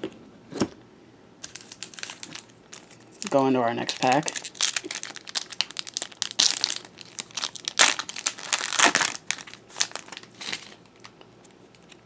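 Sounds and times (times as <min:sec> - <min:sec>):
plastic wrapper crinkling and tearing: 0:01.4 - 0:12.0.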